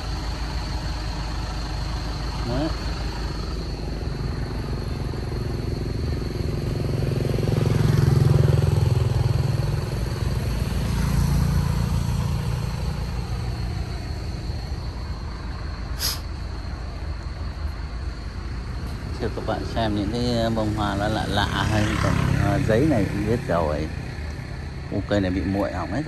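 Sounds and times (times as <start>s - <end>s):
traffic rumble: 0.0s - 26.0s
vehicle passing: 0.0s - 26.0s.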